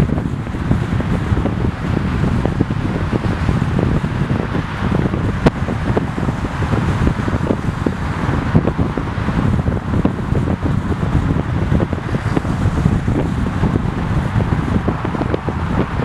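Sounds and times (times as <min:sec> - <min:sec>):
low thumps: 0:00.0 - 0:16.0
road noise: 0:00.0 - 0:16.0
wind buffeting microphone: 0:00.0 - 0:16.0.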